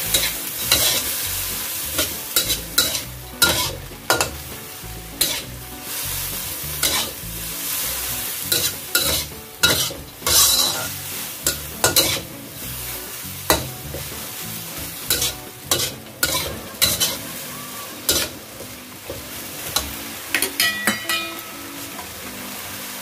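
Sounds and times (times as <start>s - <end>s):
metal spatula scraping a wok: 0.0s - 20.0s
food sizzling: 0.0s - 23.0s.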